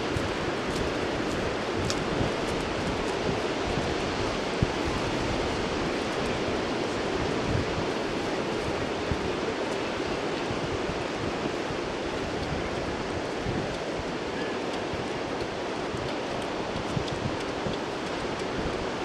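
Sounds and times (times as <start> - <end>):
wind rushing across microphone: 0.0 - 19.0.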